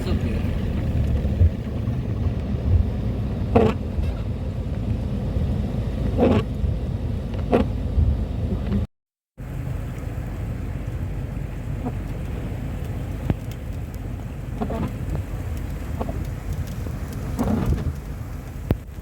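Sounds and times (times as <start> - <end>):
vehicle driving rumble: 0.0 - 19.0.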